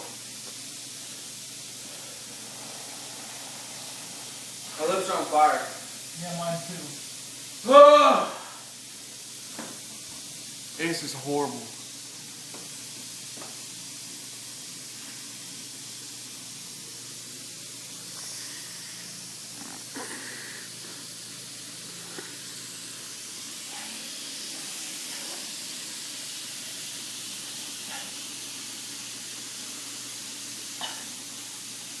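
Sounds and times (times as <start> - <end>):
background hiss: 0.0 - 32.0.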